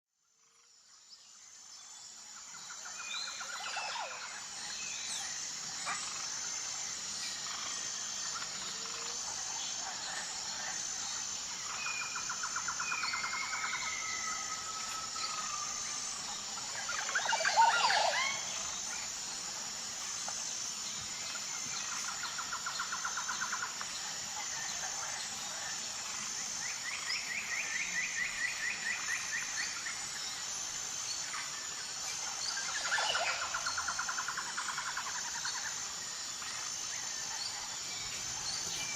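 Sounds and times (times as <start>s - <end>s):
high insect chirr: 0.2s - 38.9s.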